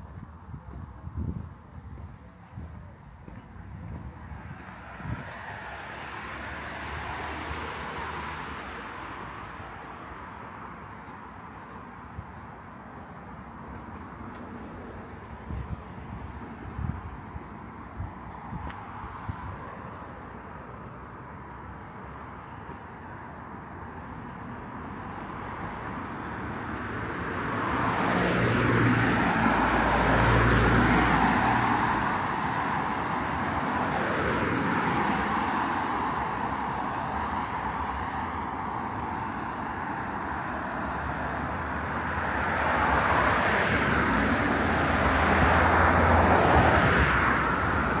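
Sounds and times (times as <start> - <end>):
road traffic passing: 0.0 - 48.0.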